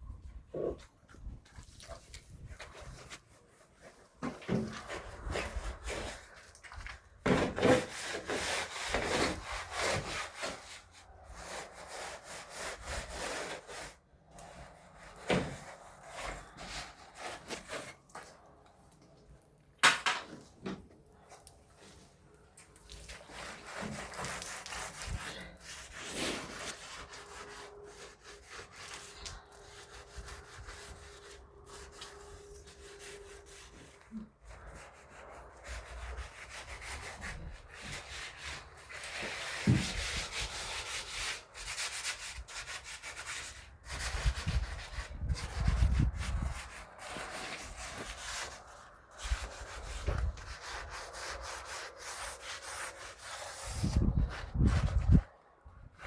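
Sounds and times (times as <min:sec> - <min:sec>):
scraping on a hard surface: 0:00.5 - 0:18.5, 0:21.8 - 0:56.0.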